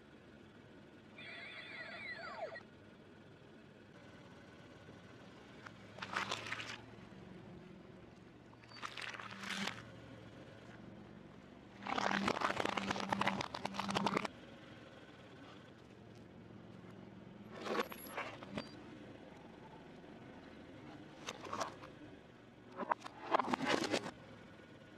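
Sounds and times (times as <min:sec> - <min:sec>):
low car hum: 0:00.0 - 0:24.9.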